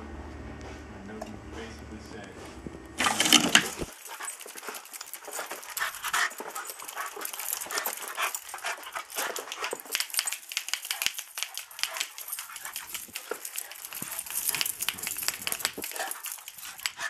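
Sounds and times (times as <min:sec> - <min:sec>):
dog panting: 0:02.4 - 0:17.0.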